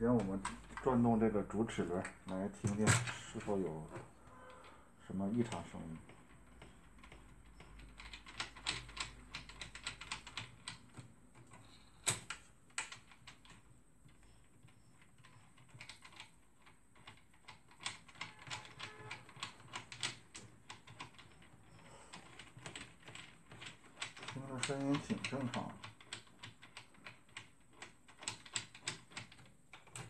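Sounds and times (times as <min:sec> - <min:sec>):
gears clicking and ticking: 0:05.3 - 0:30.0.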